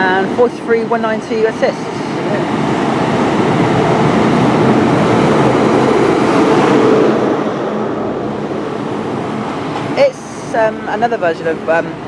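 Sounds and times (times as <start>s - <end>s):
diesel locomotive engine working: 0.0s - 12.0s
train rumbling on rails: 0.0s - 12.0s.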